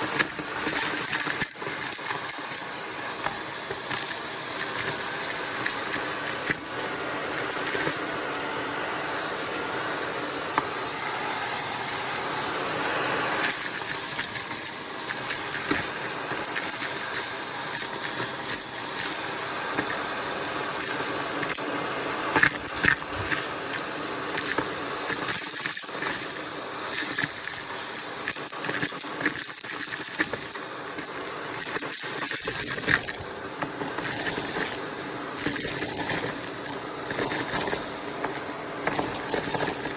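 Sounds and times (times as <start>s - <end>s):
debris clicking in vacuum tool: 0.0s - 8.2s, 13.3s - 39.9s
vacuum cleaner running: 0.0s - 39.9s.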